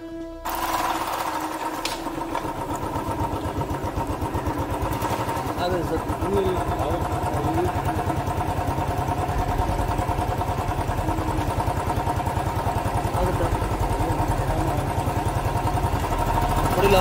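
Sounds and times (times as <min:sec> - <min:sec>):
motorcycle engine idling: 0:00.4 - 0:17.0.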